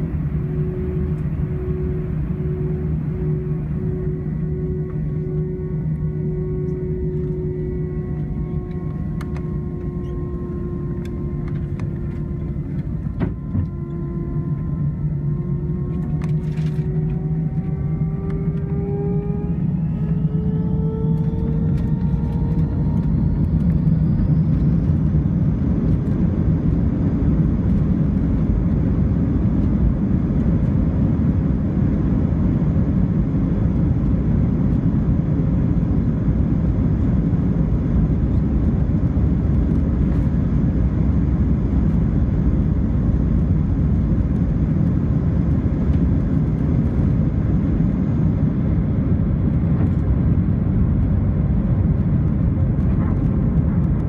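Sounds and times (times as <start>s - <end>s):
takeoff roll rumble: 0.0s - 54.0s.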